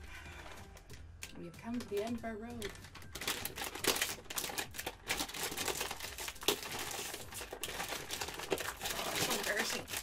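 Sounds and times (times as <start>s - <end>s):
plastic chip bag crinkling: 0.4s - 10.0s.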